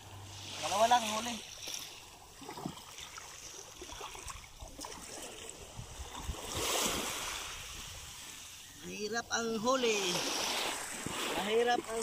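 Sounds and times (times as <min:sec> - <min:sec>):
small waves lapping: 0:00.0 - 0:12.0
surf washing: 0:00.0 - 0:12.0.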